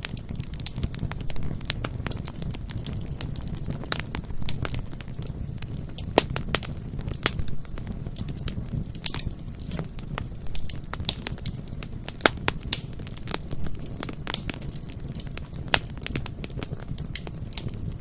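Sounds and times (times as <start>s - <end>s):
burning wood crackling and popping: 0.0s - 18.0s
low rumble of flames: 0.0s - 18.0s.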